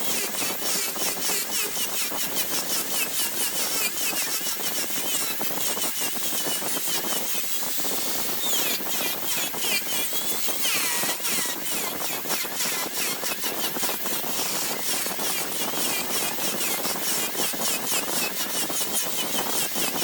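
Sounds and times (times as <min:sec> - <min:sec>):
turning tool squeaks: 0:00.0 - 0:20.0
wood lathe cutting ticks: 0:00.0 - 0:20.0.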